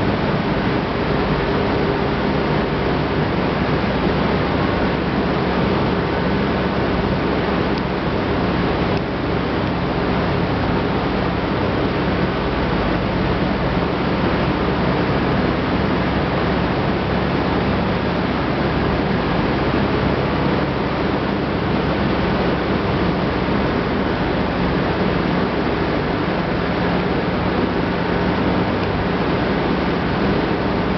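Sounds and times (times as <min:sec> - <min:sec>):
low hum of motors and pumps: 0:00.0 - 0:30.9.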